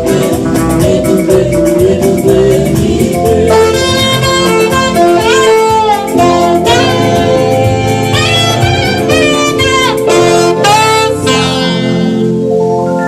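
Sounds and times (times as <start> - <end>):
band with bass and keyboard: 0.0 - 13.0
saxophone melody: 0.0 - 13.0.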